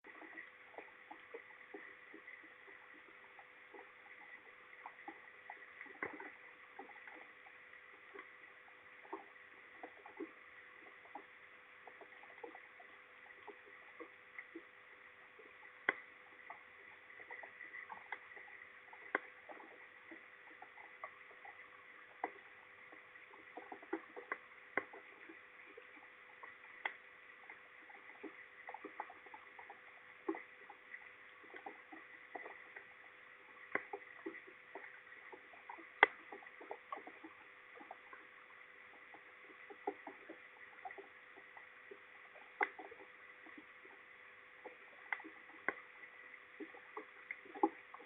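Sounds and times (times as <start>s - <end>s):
faint steady hiss: 0.0s - 48.0s
faint steady tone: 0.0s - 48.0s
raindrops ticking on microphone: 0.0s - 48.0s.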